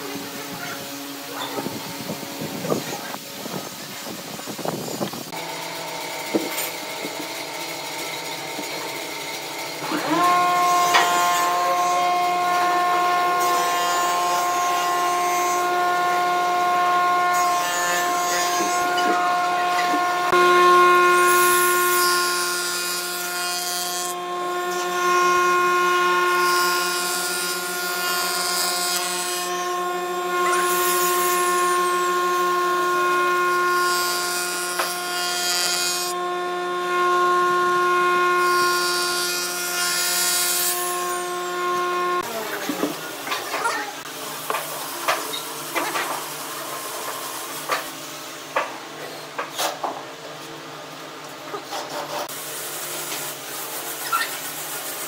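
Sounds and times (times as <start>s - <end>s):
jointer humming while planing wood: 0.0s - 49.0s.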